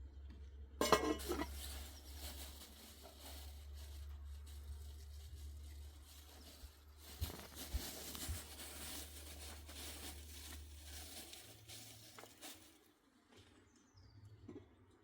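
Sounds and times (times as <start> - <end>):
soft rustling and crinkling: 0.8 - 13.9.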